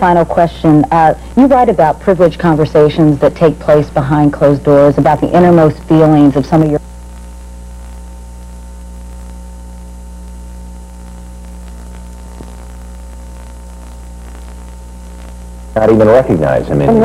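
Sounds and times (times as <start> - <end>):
electrical mains hum: 0.0 - 17.0
tape hiss: 0.0 - 17.0.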